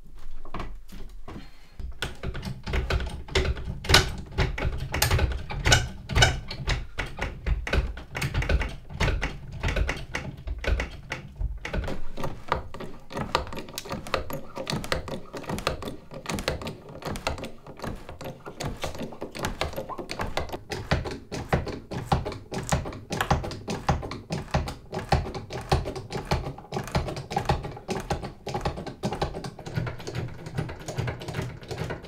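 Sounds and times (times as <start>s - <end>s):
clicks taps and knocks on logs: 1.8s - 32.0s
bottle jack handle pumping: 2.0s - 32.0s.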